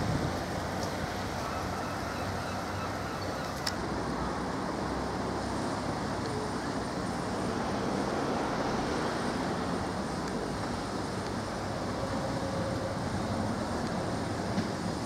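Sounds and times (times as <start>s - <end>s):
train wheel noise: 0.0s - 15.0s.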